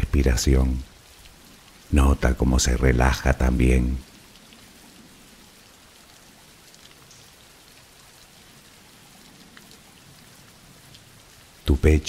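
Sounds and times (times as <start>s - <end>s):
steady rain patter: 0.0s - 12.0s.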